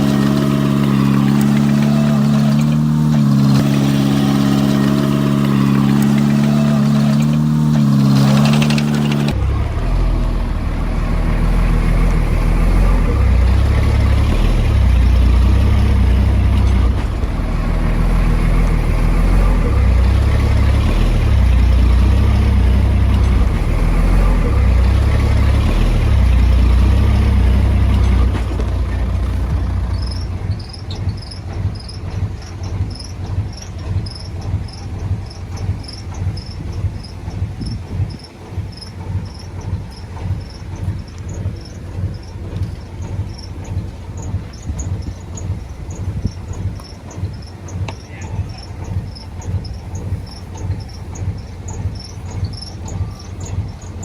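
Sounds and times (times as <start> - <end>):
heavy diesel machinery engine: 0.0 - 54.0
insects chirping: 0.0 - 54.0.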